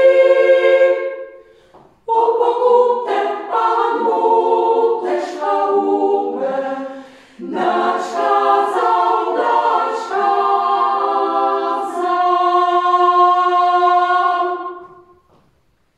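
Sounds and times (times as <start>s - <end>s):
women's choir singing a cappella: 0.0s - 15.3s.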